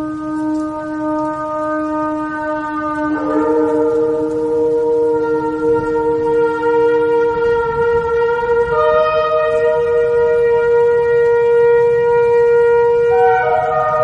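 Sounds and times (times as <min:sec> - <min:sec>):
shofar blasts: 0:00.0 - 0:14.0.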